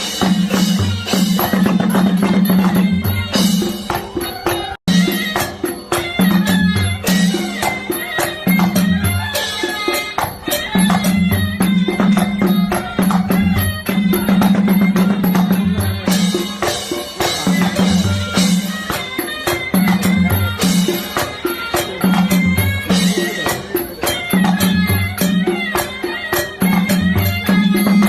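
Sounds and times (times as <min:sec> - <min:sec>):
clicking percussion: 0:00.0 - 0:28.0
driving drum pattern: 0:00.0 - 0:28.0.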